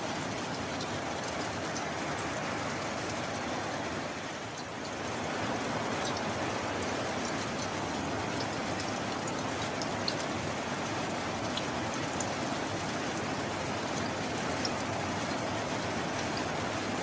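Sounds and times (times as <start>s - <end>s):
raindrop ticks: 0.0s - 17.0s
steady rain: 0.0s - 17.0s.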